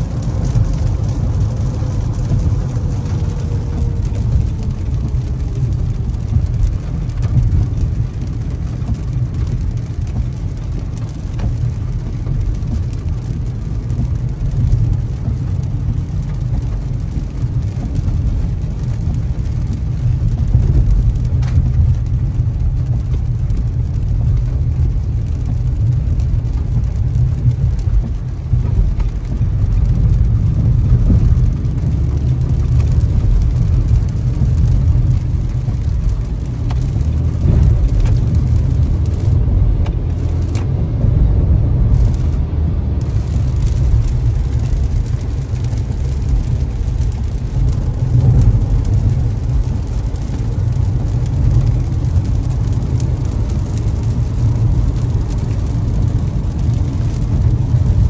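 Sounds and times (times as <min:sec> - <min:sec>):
car engine and road rumble: 0:00.0 - 0:58.0
rain on windshield: 0:00.0 - 0:58.0
tyres hissing on wet road: 0:00.0 - 0:58.0.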